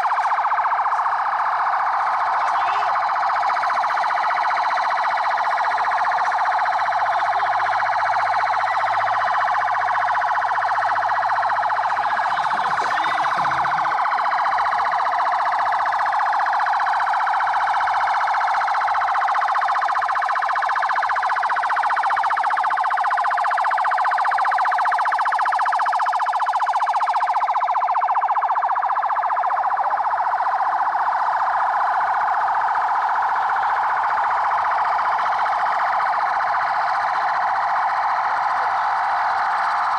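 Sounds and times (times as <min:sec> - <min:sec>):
police sirens wailing: 0:00.0 - 0:39.9.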